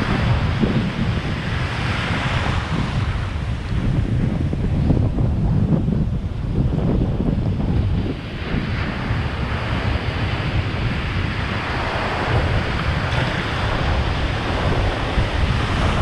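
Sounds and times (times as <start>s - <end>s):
water and surf hissing: 0.0s - 16.0s
wind buffeting microphone: 0.0s - 16.0s.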